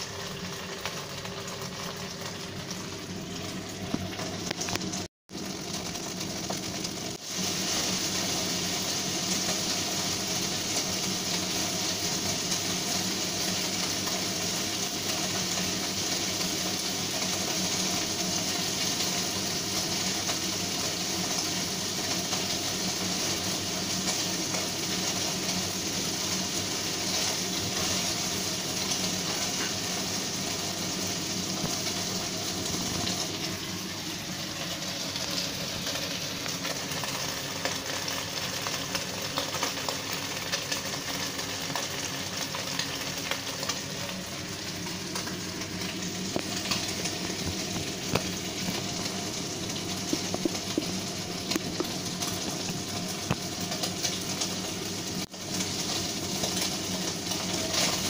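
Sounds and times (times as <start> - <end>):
chopsticks and spatula turning food: 0.0 - 58.0
pork sizzling in hot oil: 0.0 - 58.0.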